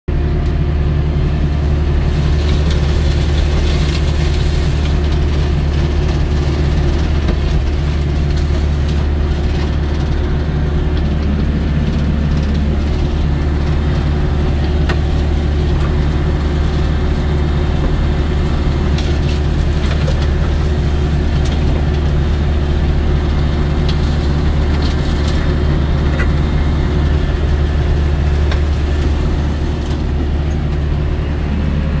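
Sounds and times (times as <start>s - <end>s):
combine harvester droning: 0.1s - 32.0s.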